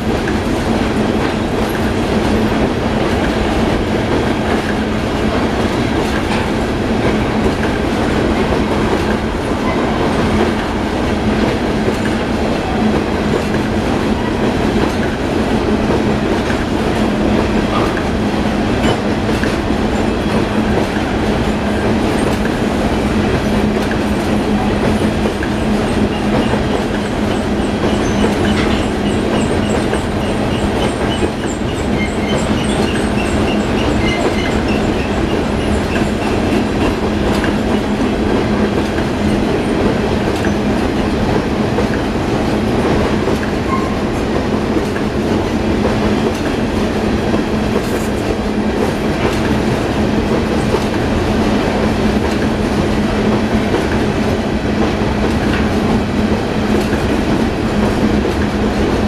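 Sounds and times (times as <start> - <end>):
freight train rumbling over bridge: 0.0 - 59.0
wheels clickety-clack: 0.0 - 59.0.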